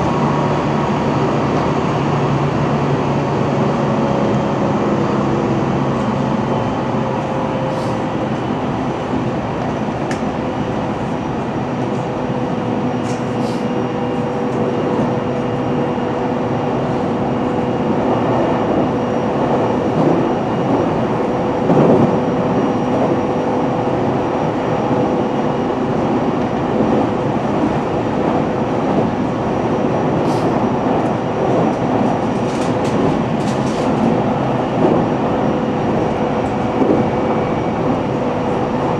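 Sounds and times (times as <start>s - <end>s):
train wheel and rail rumble: 0.0s - 38.9s.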